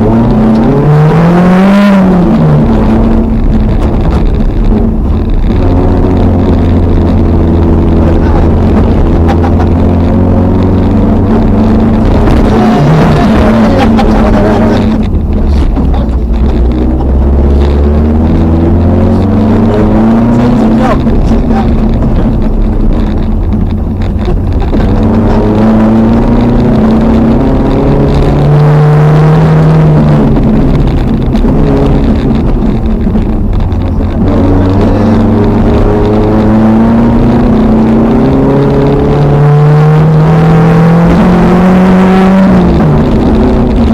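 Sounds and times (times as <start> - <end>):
car engine revving under load: 0.0 - 43.9
low rumble: 0.0 - 43.9.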